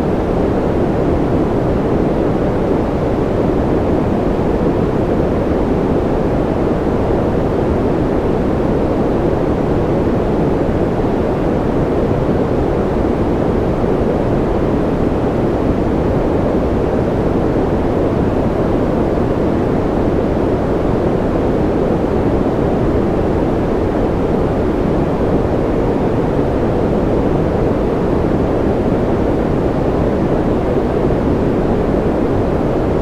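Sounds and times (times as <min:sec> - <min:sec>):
low-pitched white noise hiss: 0:00.0 - 0:33.0.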